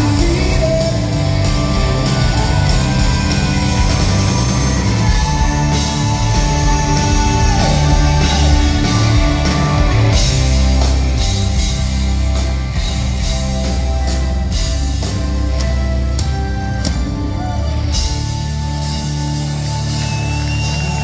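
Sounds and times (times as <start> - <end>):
bass guitar: 0.0 - 21.0
drum kit: 0.0 - 21.0
electric guitar: 0.0 - 21.0
keyboards: 0.0 - 21.0.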